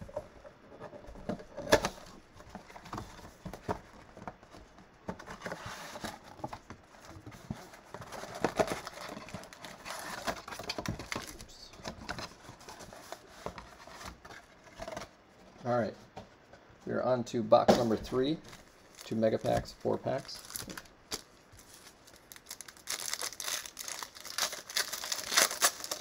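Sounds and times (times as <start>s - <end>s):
cardboard and paper rustling: 0.0s - 16.7s, 17.7s - 26.0s.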